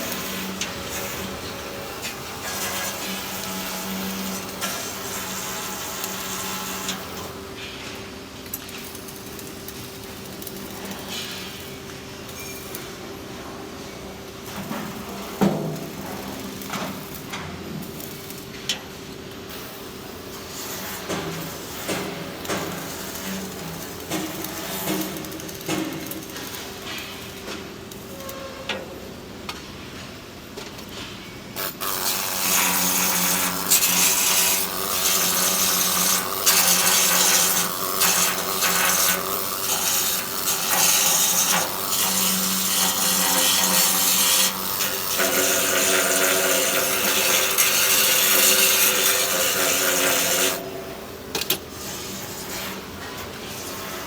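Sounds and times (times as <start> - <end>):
welding arc crackling hiss: 0.0 - 13.0, 13.8 - 28.3, 31.6 - 54.0
welding machine noise: 0.0 - 28.4, 31.6 - 54.0.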